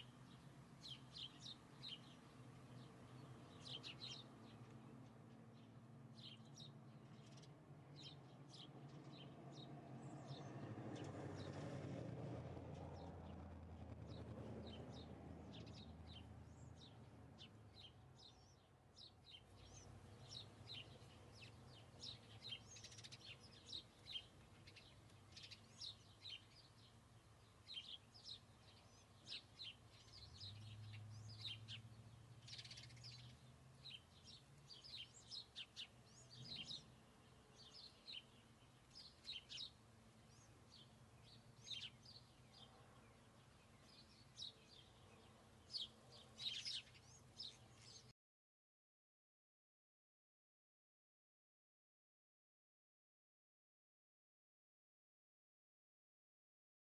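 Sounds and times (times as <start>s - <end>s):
small birds chirping: 0.0s - 11.8s, 12.7s - 48.2s.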